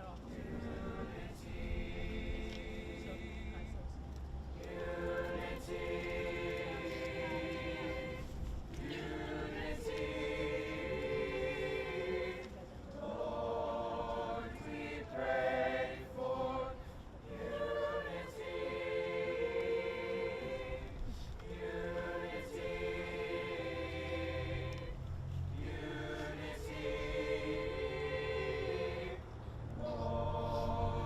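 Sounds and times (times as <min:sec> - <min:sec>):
choir singing: 0:00.3 - 0:31.0.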